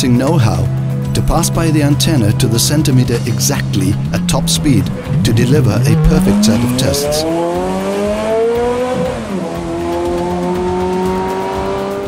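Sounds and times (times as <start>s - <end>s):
car engine revving: 1.9s - 12.0s.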